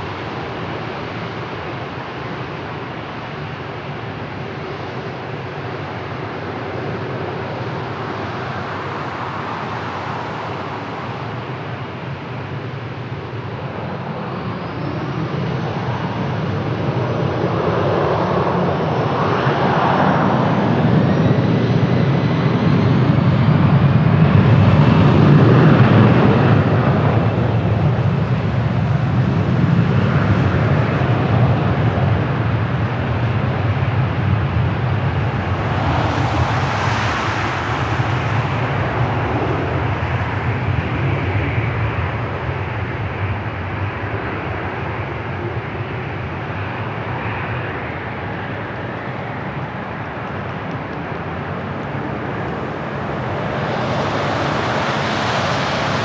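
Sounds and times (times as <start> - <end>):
jet engines at takeoff: 0.0 - 56.0
rising jet whine: 4.8 - 13.4, 14.3 - 42.6, 47.4 - 56.0.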